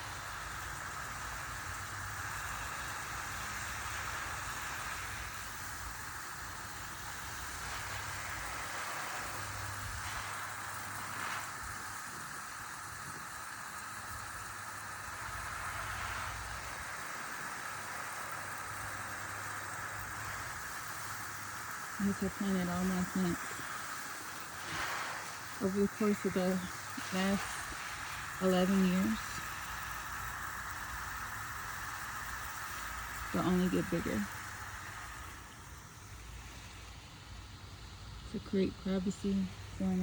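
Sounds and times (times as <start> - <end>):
hose spray hissing on leaves: 0.0 - 40.0.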